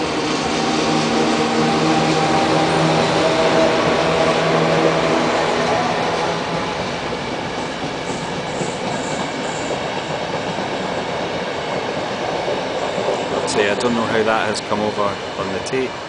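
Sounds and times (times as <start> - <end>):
train drive humming: 0.0 - 16.0
train passing rushing noise: 0.0 - 16.0.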